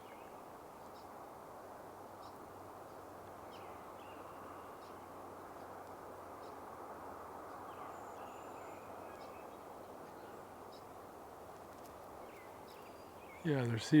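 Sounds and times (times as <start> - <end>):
low outdoor background rush: 0.0 - 14.0.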